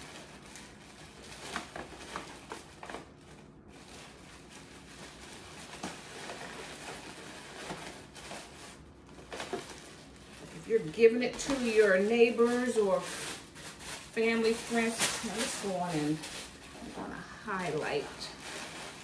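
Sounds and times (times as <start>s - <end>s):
tissue paper and bags rustling: 0.0s - 19.0s.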